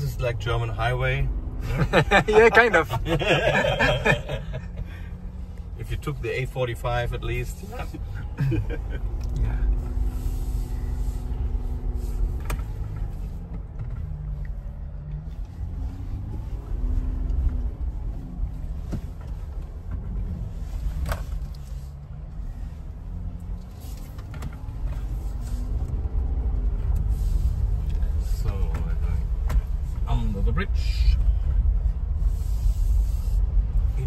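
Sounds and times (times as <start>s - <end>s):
engine and road rumble in car: 0.0s - 34.0s.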